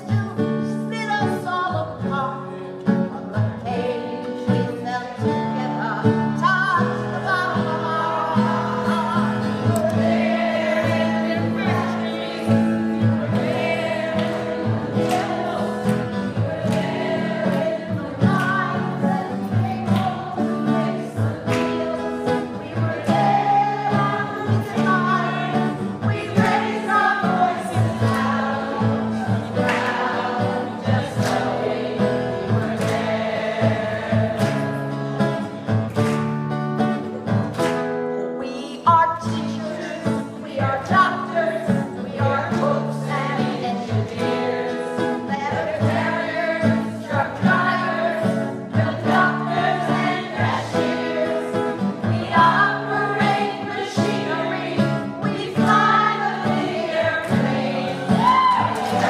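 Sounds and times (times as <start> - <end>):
strummed acoustic guitar: 0.0 - 59.0
voices singing together: 3.2 - 35.8, 39.1 - 59.0.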